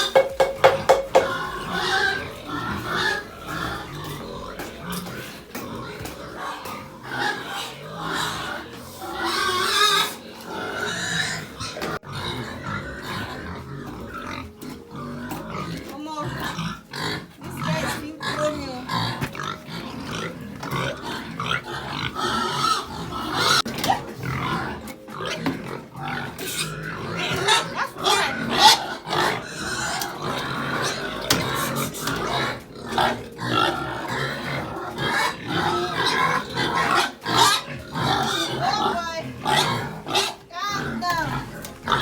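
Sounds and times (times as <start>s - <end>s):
pigs squealing and grunting: 0.0s - 42.0s.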